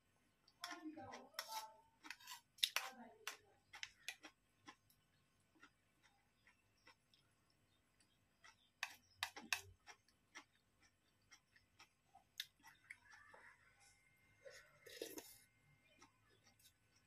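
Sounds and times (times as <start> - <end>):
soft eating sounds: 0.0 - 17.0.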